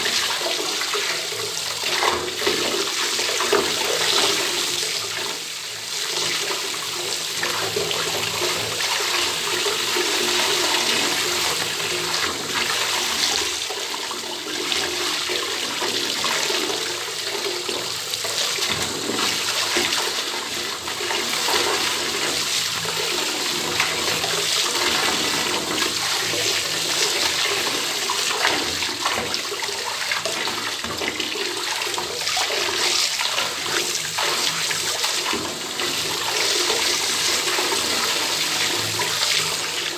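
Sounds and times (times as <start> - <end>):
water running from bathtub tap: 0.0 - 39.9.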